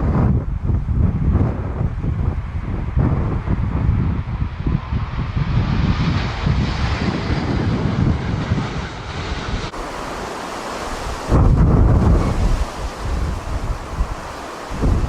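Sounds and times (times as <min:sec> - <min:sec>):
jet engines rushing: 0:00.0 - 0:15.0
wind buffeting microphone: 0:00.0 - 0:15.0.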